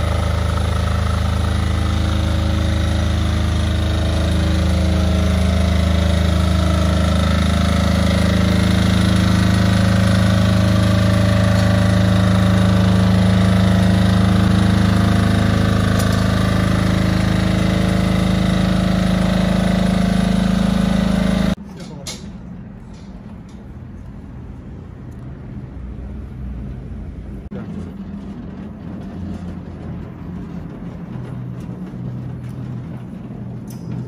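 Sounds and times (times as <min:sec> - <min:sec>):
diesel generator running: 0:00.0 - 0:34.0.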